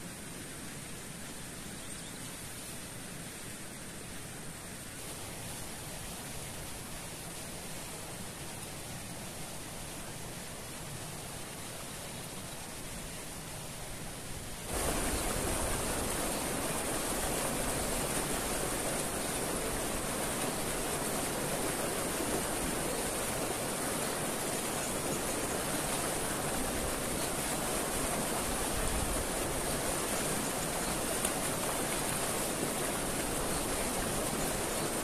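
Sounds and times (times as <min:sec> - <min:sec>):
river water rushing over rocks: 0:02.5 - 0:35.0.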